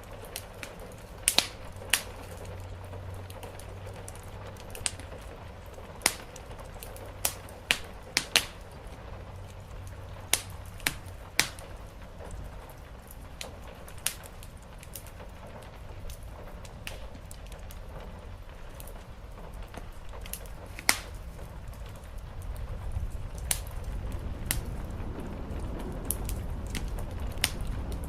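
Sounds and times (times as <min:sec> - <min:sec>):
rain on a roof: 0:00.0 - 0:28.0
steady low rumble: 0:00.0 - 0:28.0
wood fire crackling and popping: 0:00.0 - 0:28.0.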